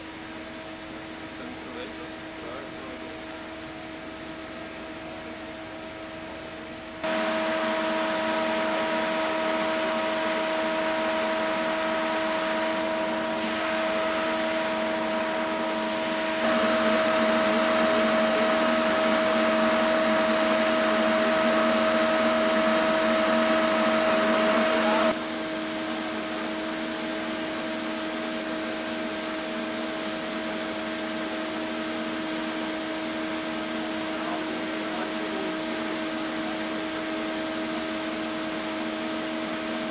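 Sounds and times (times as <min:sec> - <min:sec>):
machine motor droning hum: 0:00.0 - 0:39.9.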